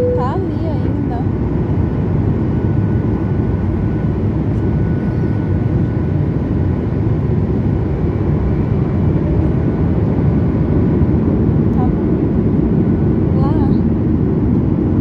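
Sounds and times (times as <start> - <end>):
high engine whine: 0.0 - 15.0
jet engine and airflow rush: 0.0 - 15.0.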